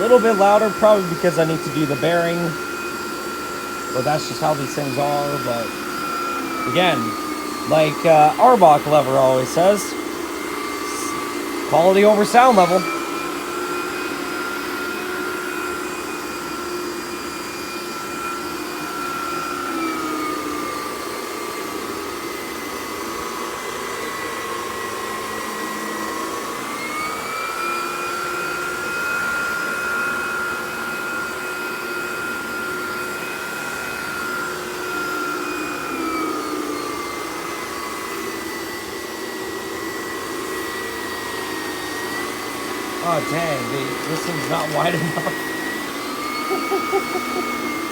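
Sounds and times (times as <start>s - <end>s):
brush head working over carpet: 0.0s - 47.9s
vacuum cleaner whining: 0.0s - 47.9s.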